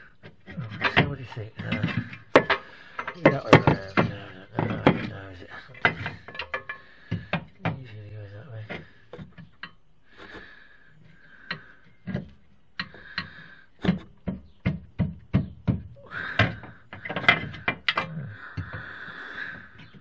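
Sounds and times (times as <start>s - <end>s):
metal and wood knocking: 0.0s - 20.0s.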